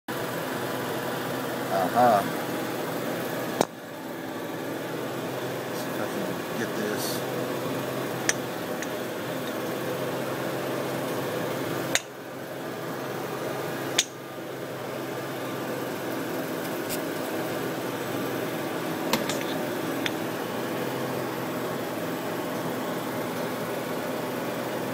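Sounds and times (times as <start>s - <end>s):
car engine idling: 0.2s - 23.8s.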